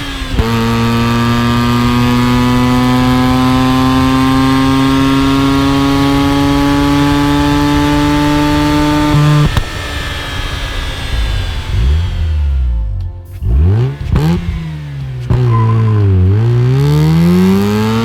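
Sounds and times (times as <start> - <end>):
rotary engine revving under load: 0.0 - 12.7, 13.5 - 18.0.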